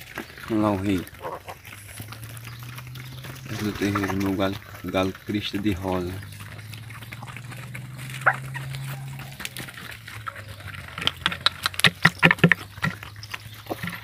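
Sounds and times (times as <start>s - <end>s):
chickens clucking: 0.0s - 14.0s
low steady hum: 0.7s - 14.0s.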